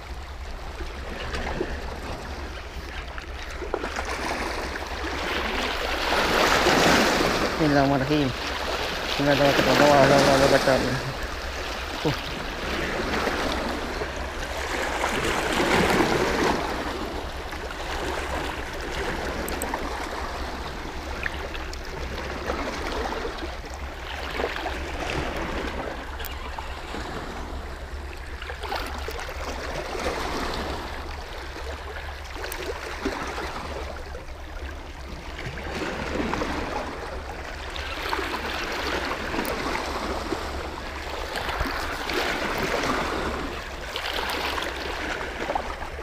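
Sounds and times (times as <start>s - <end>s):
waves washing over rocks: 0.0s - 46.0s.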